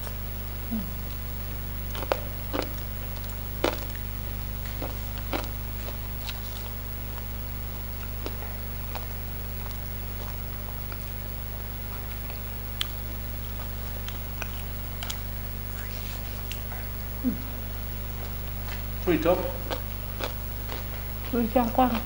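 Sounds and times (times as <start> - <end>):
steady low hum: 0.0 - 22.0
chewing crunchy food: 1.7 - 22.0.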